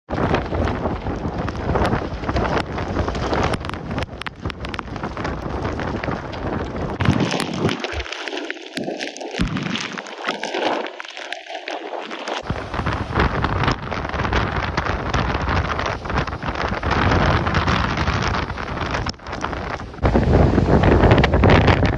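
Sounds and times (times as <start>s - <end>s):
wind gusting on microphone: 0.1s - 11.0s, 11.8s - 21.9s
heavy surf breaking on shore: 0.1s - 21.9s.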